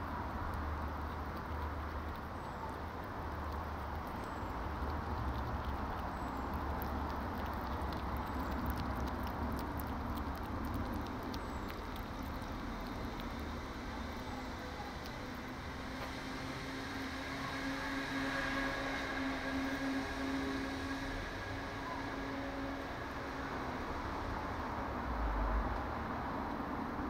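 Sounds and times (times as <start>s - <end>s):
hedgehog chewing and snuffling: 0.0s - 25.0s.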